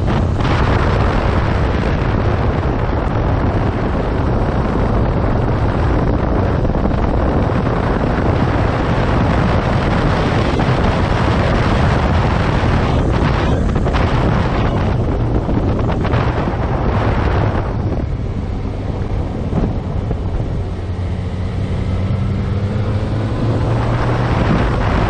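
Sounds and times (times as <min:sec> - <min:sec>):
road and engine noise: 0:00.0 - 0:25.0
wind rushing over microphone: 0:00.0 - 0:25.0.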